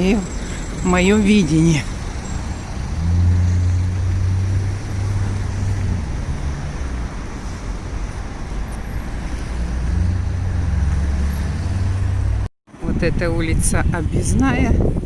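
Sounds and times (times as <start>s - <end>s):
cars driving past: 0.0s - 12.5s
passing vehicle engine hum: 0.0s - 13.0s.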